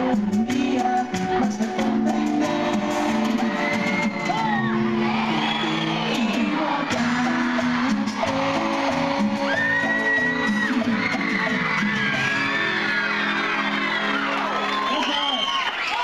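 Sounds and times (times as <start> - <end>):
live band music: 0.0 - 15.2
people whooping and shouting: 2.9 - 16.0.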